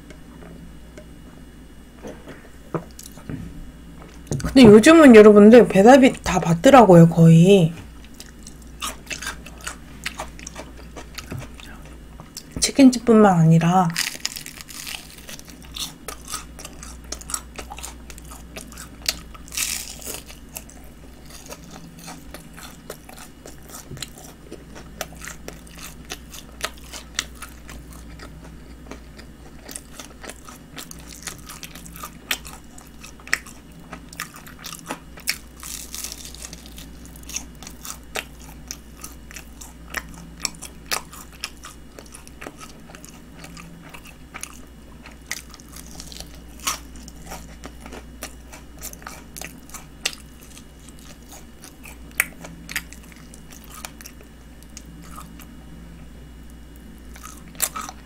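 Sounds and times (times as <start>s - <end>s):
faint low hum: 0.0s - 58.0s
crunchy fried chicken chewing: 7.8s - 12.6s, 13.9s - 55.6s, 56.3s - 58.0s.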